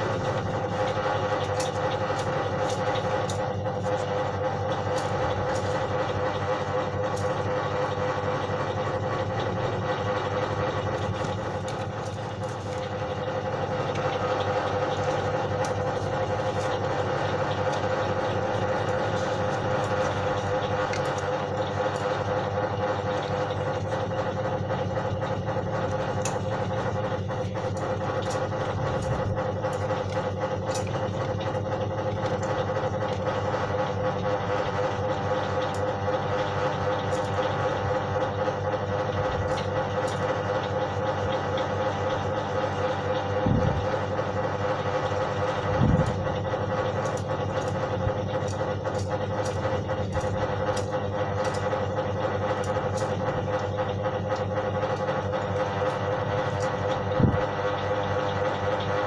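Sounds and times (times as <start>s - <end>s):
small electric motor running: 0.0s - 59.0s.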